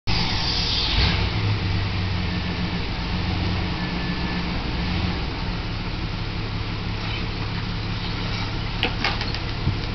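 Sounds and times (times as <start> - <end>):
van engine idling: 0.1 - 9.9.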